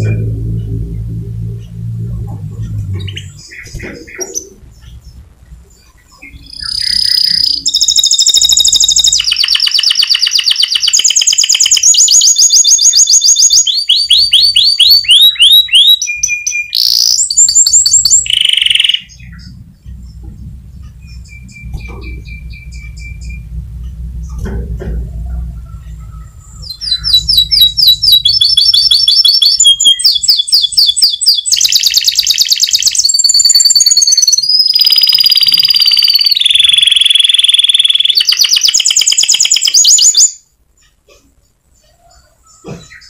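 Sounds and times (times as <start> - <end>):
faint bird chirps: 1.6 - 24.4, 25.1 - 43.0
canary singing trilled phrases: 2.6 - 24.5, 25.2 - 41.0.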